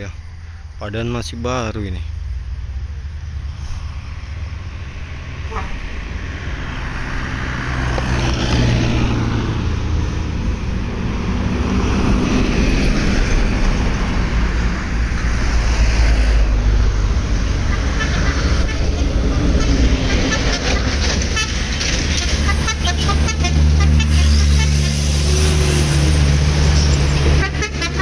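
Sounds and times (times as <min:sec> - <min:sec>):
passing road traffic: 0:00.0 - 0:28.0.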